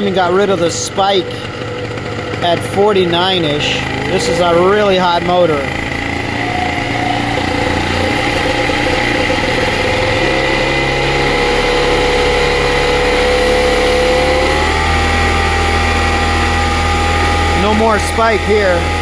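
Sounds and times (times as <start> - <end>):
two-stroke paramotor engine running: 0.0 - 19.0.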